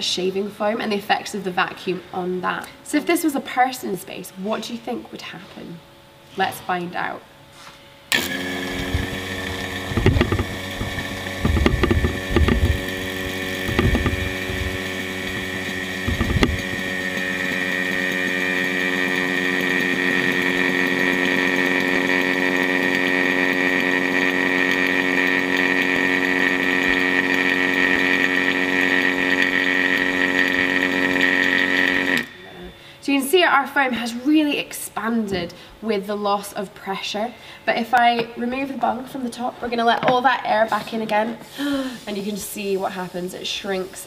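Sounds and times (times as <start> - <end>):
vacuum pump humming and whining: 0.0 - 44.0.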